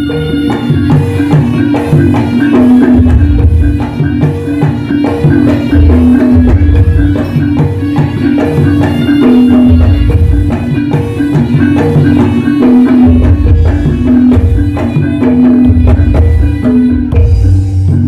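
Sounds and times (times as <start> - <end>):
hand drums driving rhythm: 0.0 - 18.0
pitched percussion notes: 0.0 - 18.0.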